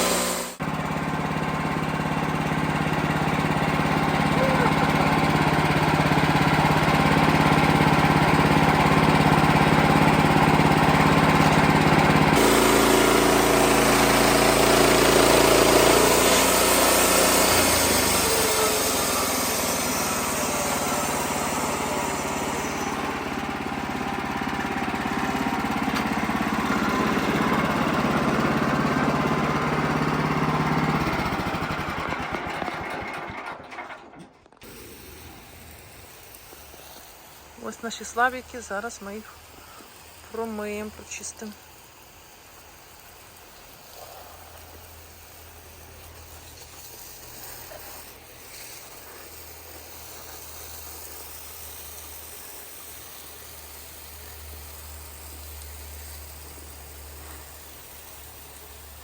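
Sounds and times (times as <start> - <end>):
band sawmill cutting log: 0.0 - 41.5, 42.4 - 59.0.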